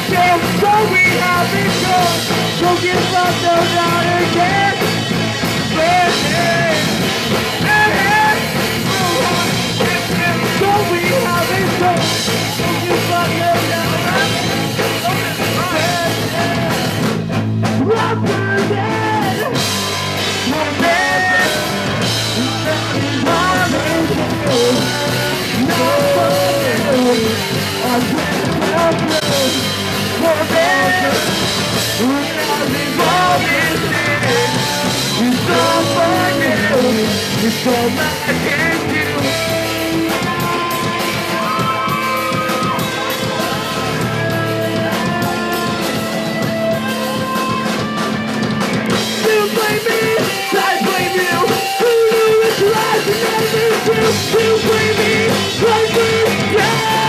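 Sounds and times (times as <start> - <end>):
person singing: 0.0 - 17.1, 17.7 - 57.0
punk rock band playing live: 0.0 - 57.0.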